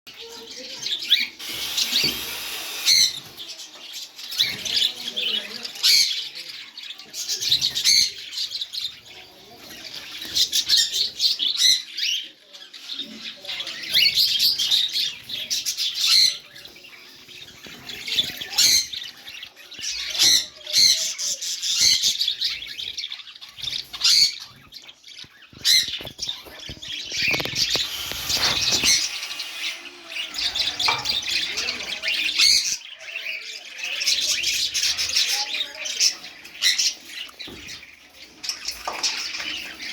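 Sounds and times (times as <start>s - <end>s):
budgerigars chattering: 0.2s - 6.4s, 7.0s - 39.9s.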